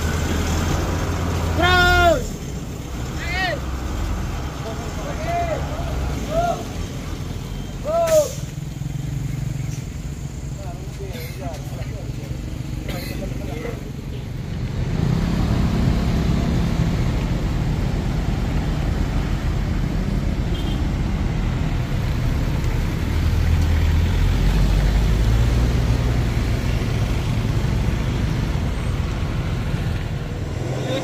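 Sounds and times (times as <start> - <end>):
road noise: 0.0 - 31.0
vehicle engine droning: 0.0 - 31.0.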